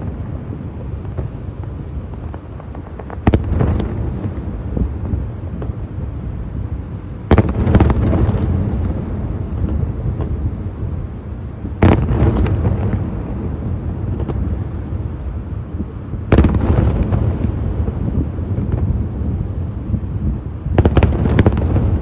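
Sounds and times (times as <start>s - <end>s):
firework crackling: 0.0s - 22.0s.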